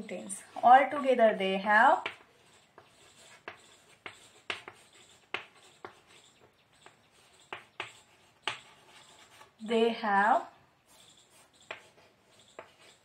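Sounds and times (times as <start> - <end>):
chalk tapping and scratching: 0.1 - 13.0.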